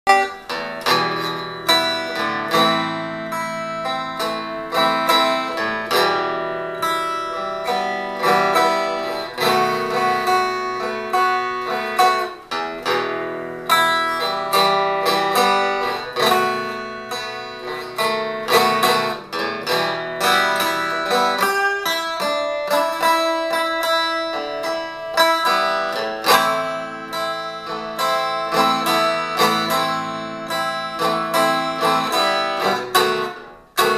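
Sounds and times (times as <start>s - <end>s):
fingerpicked resonator guitar: 0.1s - 33.9s.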